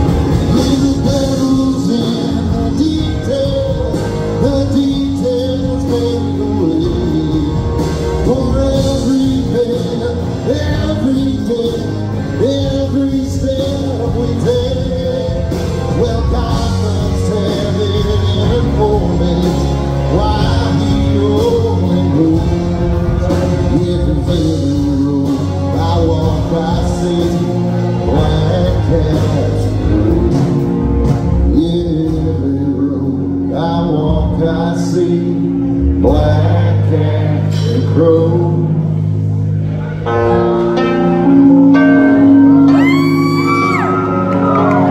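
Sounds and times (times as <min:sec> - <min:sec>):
live country band playing: 0:00.0 - 0:44.9.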